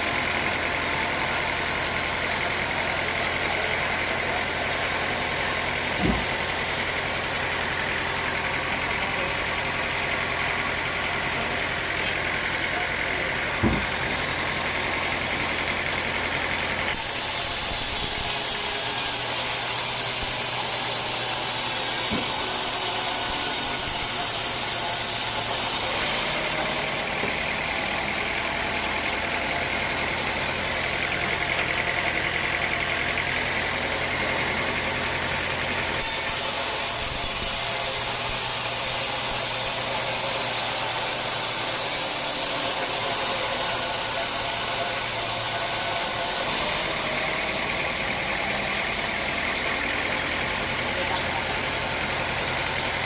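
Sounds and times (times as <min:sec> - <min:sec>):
sawmill engine hum: 0:00.0 - 0:53.0.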